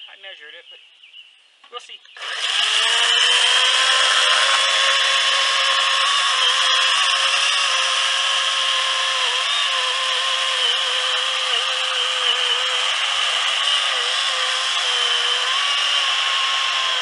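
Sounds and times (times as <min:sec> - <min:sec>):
electric chainsaw cutting log: 0:02.2 - 0:17.0.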